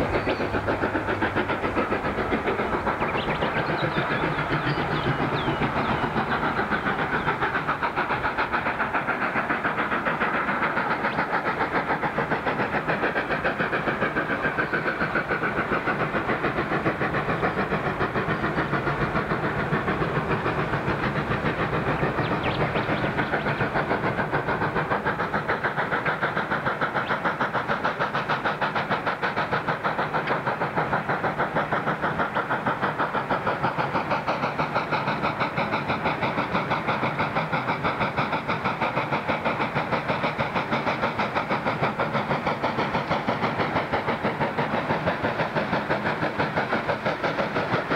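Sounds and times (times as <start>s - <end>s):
steam locomotive exhaust beating: 0.0s - 47.9s.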